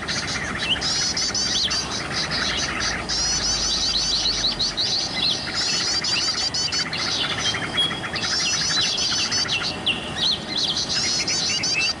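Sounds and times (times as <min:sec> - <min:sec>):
bird chirping and trilling: 0:00.0 - 0:12.0.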